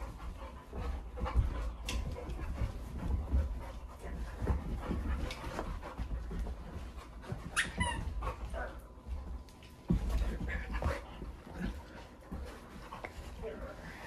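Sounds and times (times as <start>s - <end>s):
dog panting: 0.0s - 14.0s
paws and feet thumping on floor: 0.0s - 14.0s.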